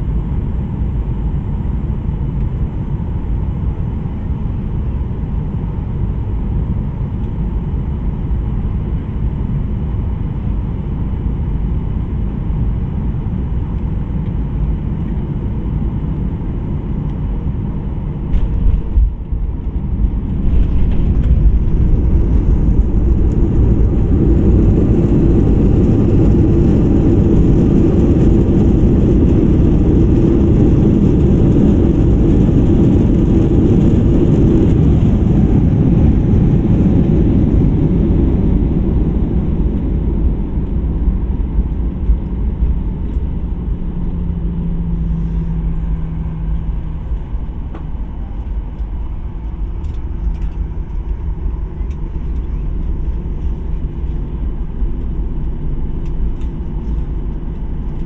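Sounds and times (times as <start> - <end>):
jet engine and airflow noise: 0.0 - 58.0.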